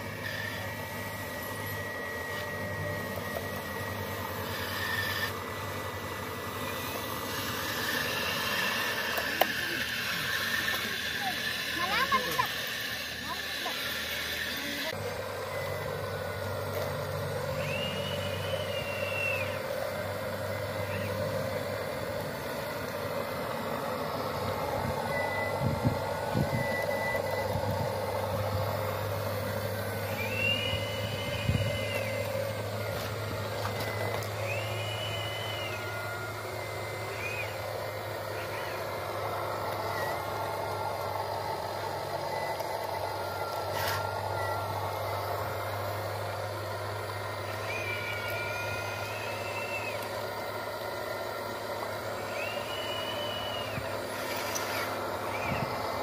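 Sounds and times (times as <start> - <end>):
high motor whine: 0.0 - 56.0
model excavator motor hum: 0.0 - 56.0.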